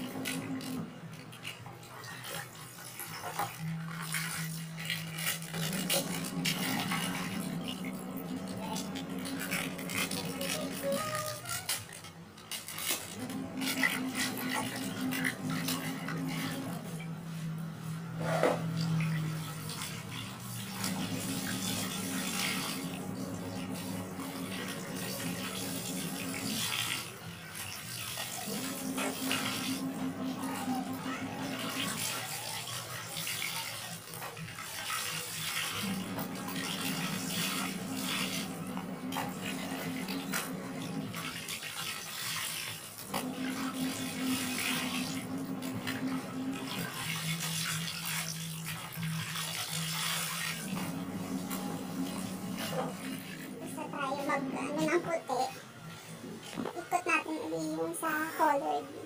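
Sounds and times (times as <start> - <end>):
laundry scrubbed in water: 0.0 - 59.0.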